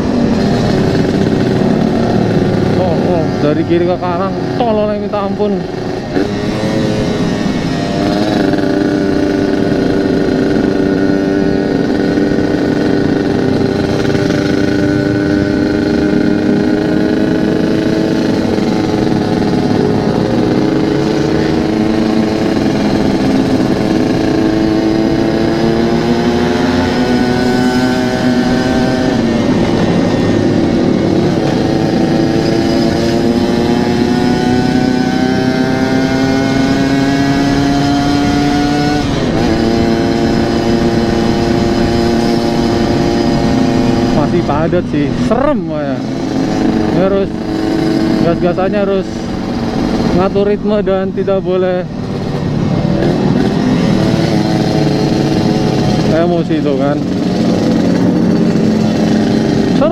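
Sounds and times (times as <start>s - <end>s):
two-stroke motorcycle engine running: 0.0s - 59.9s.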